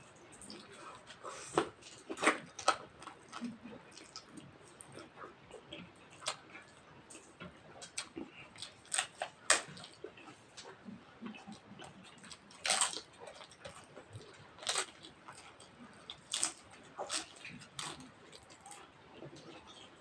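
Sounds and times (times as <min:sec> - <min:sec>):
chewing: 0:00.1 - 0:20.0.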